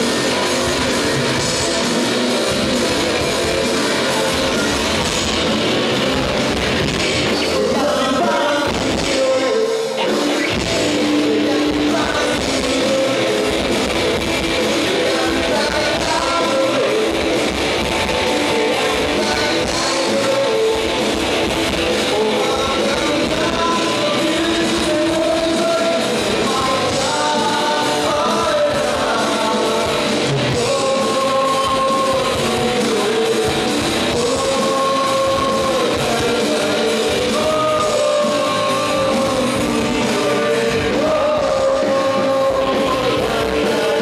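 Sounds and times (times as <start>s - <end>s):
bass guitar: 0.0s - 44.0s
drums: 0.0s - 44.0s
electric guitars: 0.0s - 44.0s
man singing: 0.0s - 44.0s.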